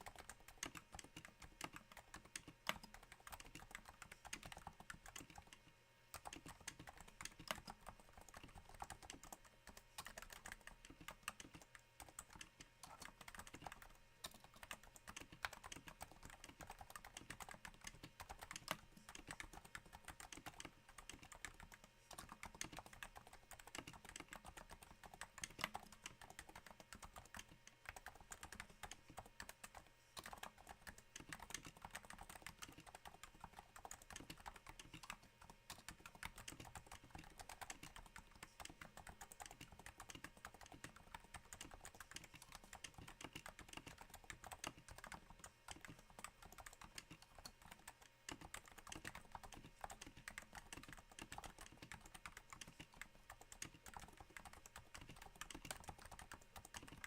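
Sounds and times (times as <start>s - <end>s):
quiet keyboard typing: 0.0s - 57.0s.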